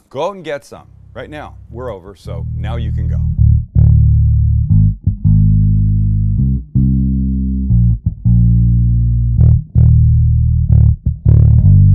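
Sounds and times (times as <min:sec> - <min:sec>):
bass guitar music: 0:00.8 - 0:11.9.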